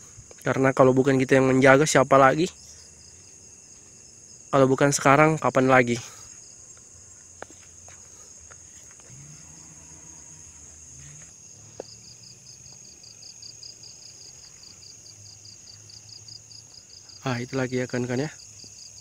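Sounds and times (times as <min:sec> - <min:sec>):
insect chirping in pulses: 0:00.0 - 0:19.0
insect high-pitched trill: 0:00.0 - 0:19.0.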